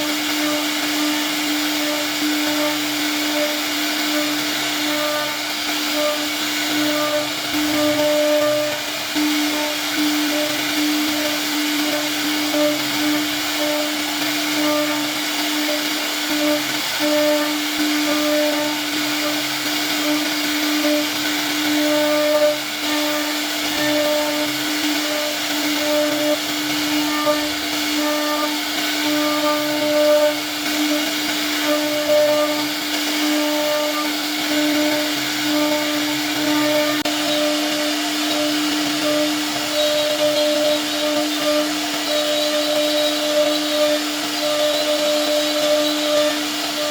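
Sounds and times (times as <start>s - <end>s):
router spindle carving wood: 0.0s - 46.9s.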